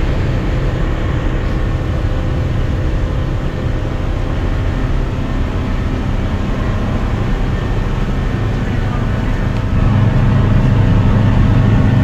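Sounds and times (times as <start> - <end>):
boat engine running: 0.0 - 12.0
water along the hull: 0.0 - 12.0.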